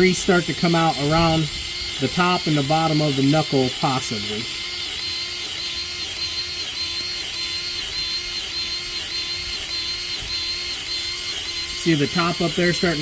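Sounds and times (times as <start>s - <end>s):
grease gun motor whining: 0.0s - 13.0s.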